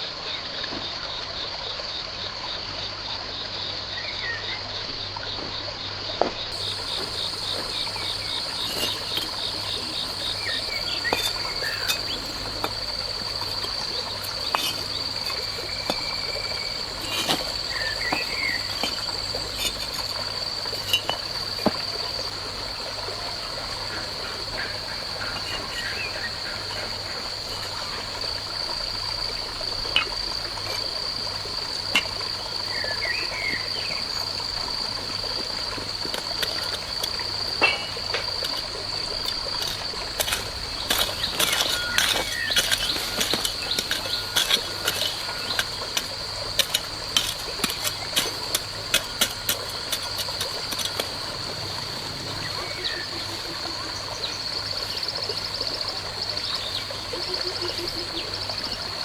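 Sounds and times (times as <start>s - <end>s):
fast pulsing insect call: 6.5s - 59.0s
high-pitched insect trill: 6.5s - 59.0s.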